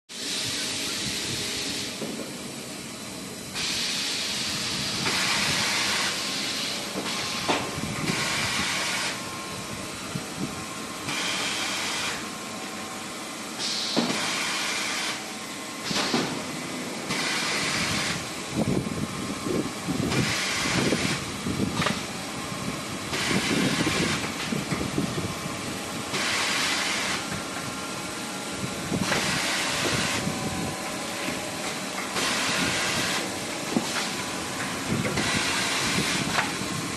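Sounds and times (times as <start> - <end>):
steady mechanical run: 0.1 - 36.9.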